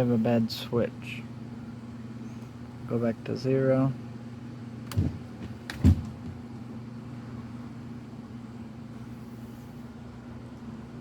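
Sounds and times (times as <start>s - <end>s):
low hum in truck cab: 0.0s - 11.0s.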